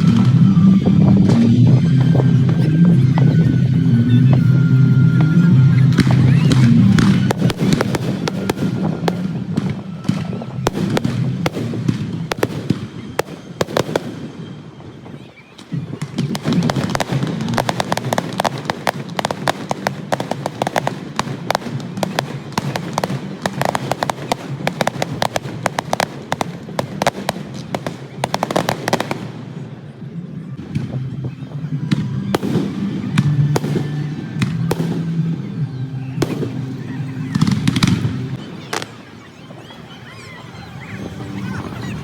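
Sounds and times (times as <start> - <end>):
fireworks crackling and banging: 0.0 - 40.3.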